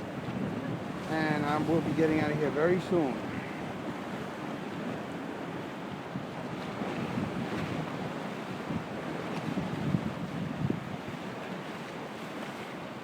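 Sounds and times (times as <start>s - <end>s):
wind buffeting microphone: 0.0s - 11.8s
choppy water waves sloshing: 0.0s - 13.0s.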